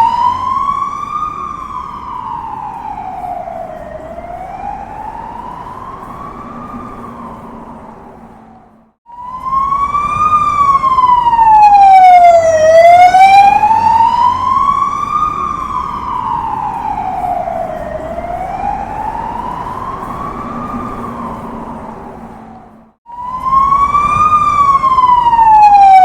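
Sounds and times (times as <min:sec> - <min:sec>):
low street rumble: 0:00.0 - 0:26.0
police siren wailing: 0:00.0 - 0:26.0.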